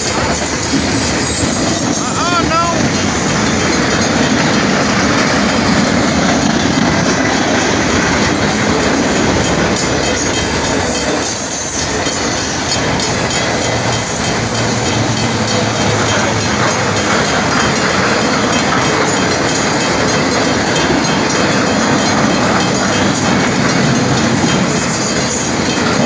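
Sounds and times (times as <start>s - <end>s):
freight train passing: 0.0s - 26.0s
wheels clattering over rail joints: 0.0s - 26.0s.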